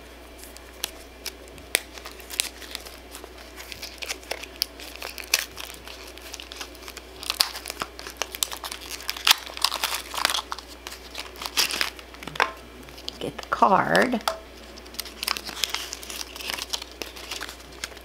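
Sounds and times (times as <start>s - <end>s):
plastic wrapper crinkling and tearing: 0.4s - 18.0s.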